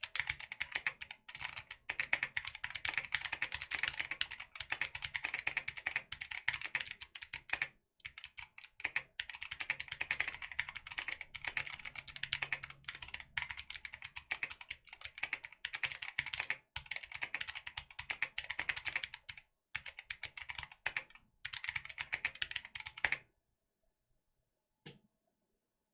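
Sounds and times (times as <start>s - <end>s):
fast typing on mechanical keyboard: 0.0s - 23.2s.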